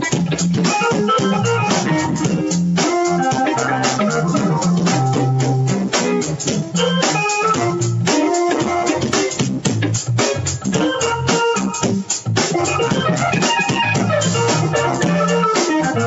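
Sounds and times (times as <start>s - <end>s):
drum kit with cymbals: 0.0s - 16.0s
electric guitar: 0.0s - 16.0s
keyboard: 0.0s - 16.0s.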